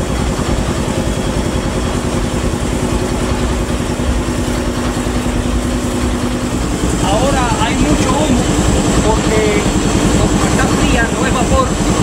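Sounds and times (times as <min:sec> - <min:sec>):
air compressor pulsing hum: 0:00.0 - 0:12.0.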